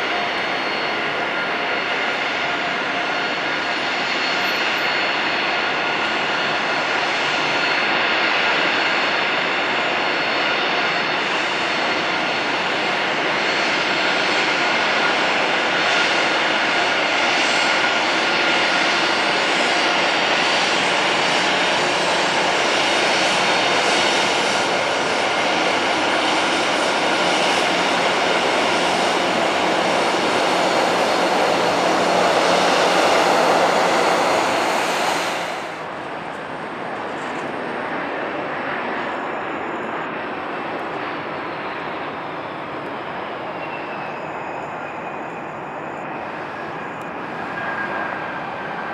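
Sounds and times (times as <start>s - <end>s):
distant airliner jet noise: 0.0s - 48.9s
jet engines whining: 0.0s - 48.9s.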